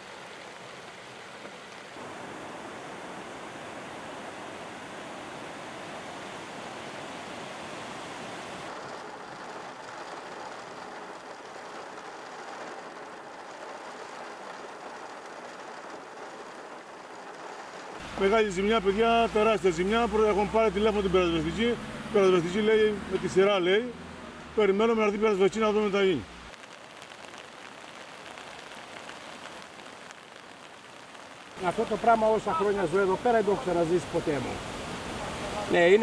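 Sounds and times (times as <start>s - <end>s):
floodwater rushing down street: 0.0s - 36.0s.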